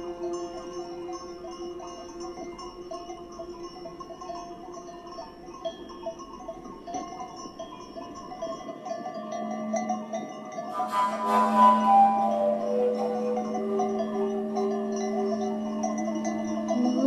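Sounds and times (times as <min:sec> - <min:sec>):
low steady drone: 0:00.0 - 0:17.0
small metal bells clinking: 0:00.0 - 0:17.0.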